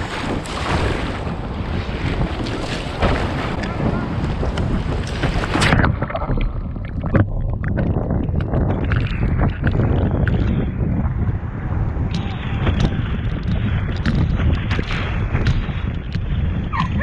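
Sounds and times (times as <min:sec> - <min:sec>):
surf breaking: 0:00.0 - 0:17.0
wave splashing camera: 0:00.0 - 0:17.0
wind noise on microphone: 0:00.0 - 0:17.0.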